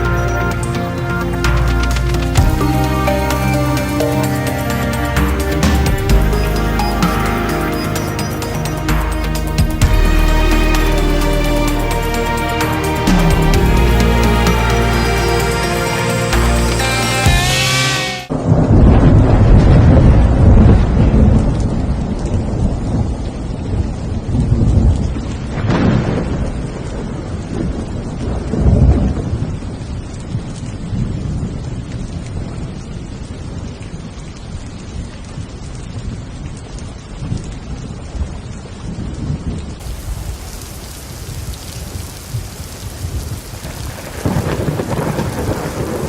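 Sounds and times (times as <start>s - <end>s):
thunder rumbling: 0.0s - 32.8s, 38.8s - 46.0s
steady rain: 0.0s - 46.0s.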